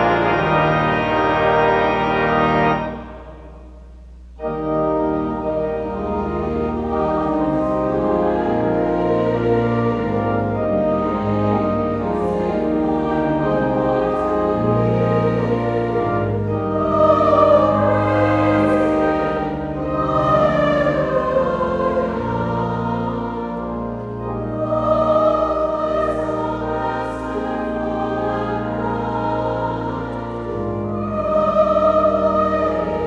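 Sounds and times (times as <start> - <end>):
brass: 0.0 - 3.8, 4.4 - 33.0
choir singing: 0.0 - 33.0
organ: 0.0 - 33.0.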